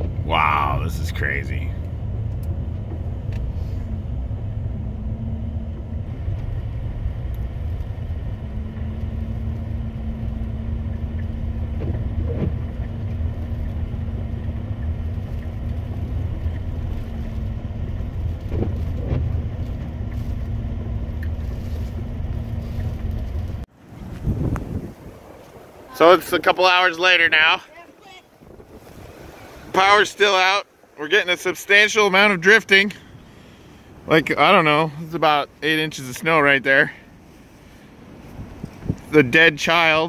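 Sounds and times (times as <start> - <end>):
tyres on snowy road: 0.0 - 40.0
vehicle engine rumble: 0.0 - 40.0.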